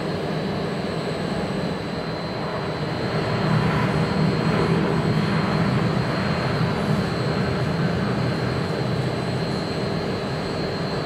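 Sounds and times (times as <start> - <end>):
jet engines rumbling and whining: 0.0 - 11.0.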